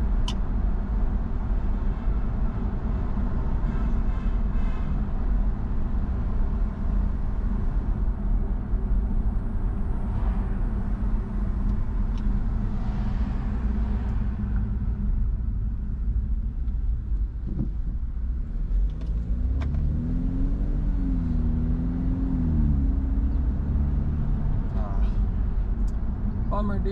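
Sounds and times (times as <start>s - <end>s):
car engine rumble: 0.0s - 26.9s
passing traffic: 0.0s - 26.9s
road noise: 0.0s - 26.9s.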